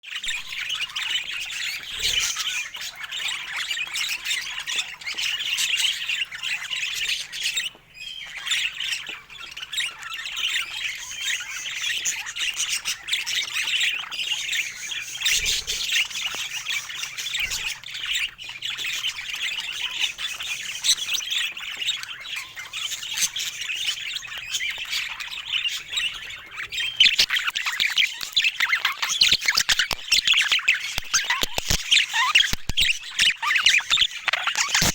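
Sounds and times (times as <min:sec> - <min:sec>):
budgerigar warbling and calls: 0:00.1 - 0:34.9.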